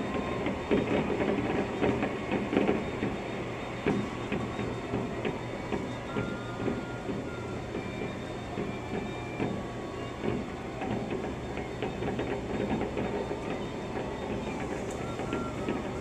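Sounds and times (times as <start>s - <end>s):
firework whistles: 0.0s - 16.0s.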